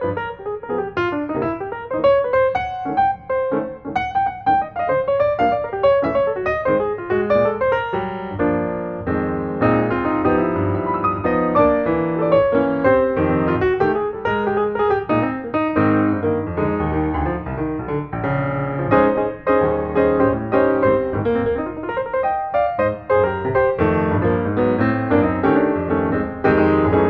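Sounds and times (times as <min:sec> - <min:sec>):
flowing piano music: 0:00.0 - 0:27.0.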